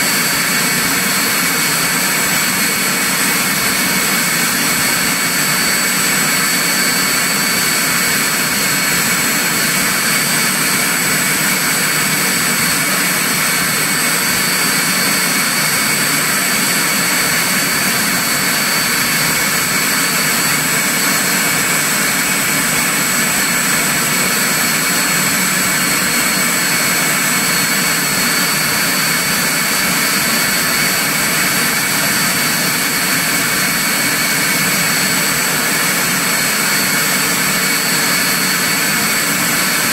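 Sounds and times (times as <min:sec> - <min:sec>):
gas turbine engine whine: 0:00.0 - 0:39.9.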